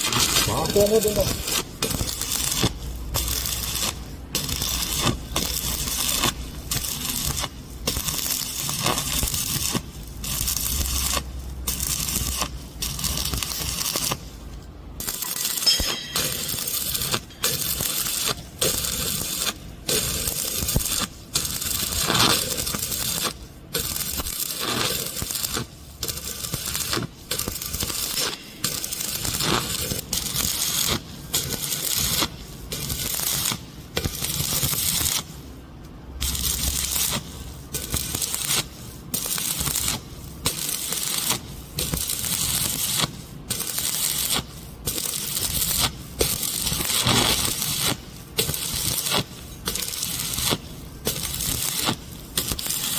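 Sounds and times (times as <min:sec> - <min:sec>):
welding arc crackling and hissing: 0:00.0 - 0:52.9.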